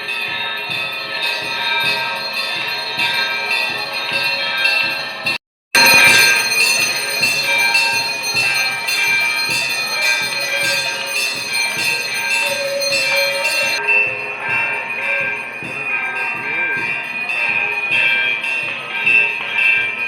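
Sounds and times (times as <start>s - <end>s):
temple bells clanging: 0.0s - 20.0s.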